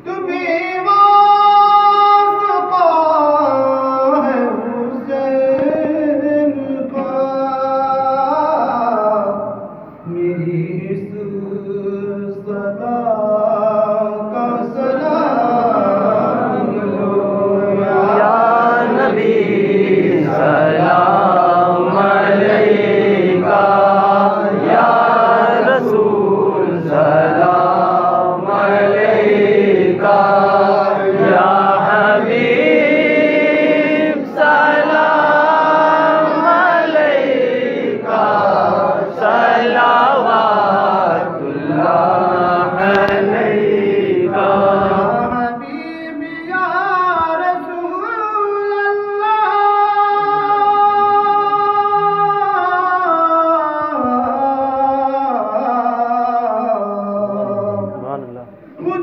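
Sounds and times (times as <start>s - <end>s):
man chanting into a microphone: 0.0s - 37.4s, 38.3s - 59.0s.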